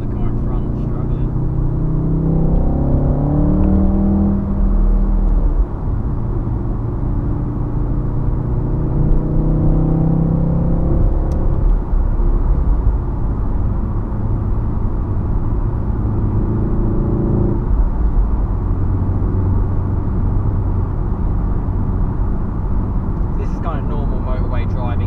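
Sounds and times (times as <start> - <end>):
car engine and exhaust running: 0.0 - 25.0.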